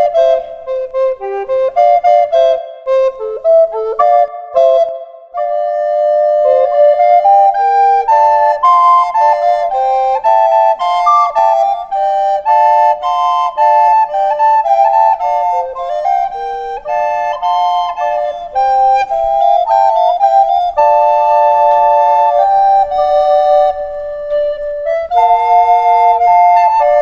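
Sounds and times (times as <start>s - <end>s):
recorders playing in harmony: 0.0s - 27.0s.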